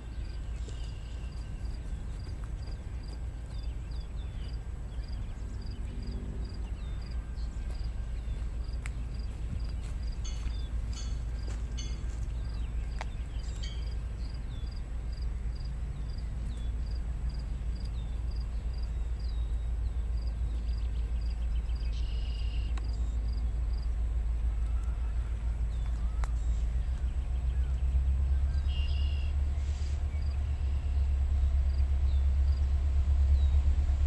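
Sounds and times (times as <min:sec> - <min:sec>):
bird calls: 0:00.0 - 0:23.7, 0:24.3 - 0:31.2
diesel freight train rumble: 0:00.0 - 0:34.0.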